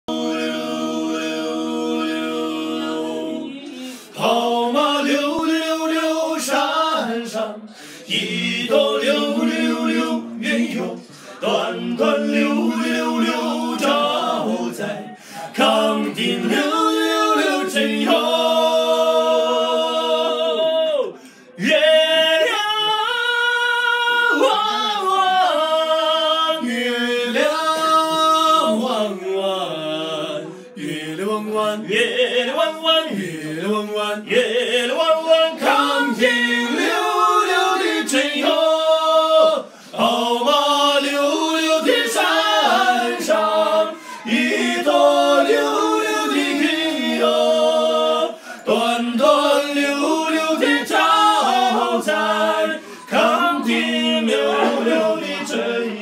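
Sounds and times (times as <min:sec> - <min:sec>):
men singing in harmony: 0:00.0 - 0:56.0.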